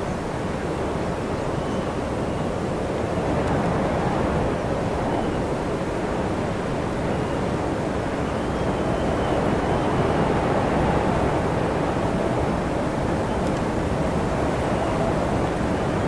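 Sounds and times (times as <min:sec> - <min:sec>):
wind blowing steadily: 0:00.0 - 0:16.0.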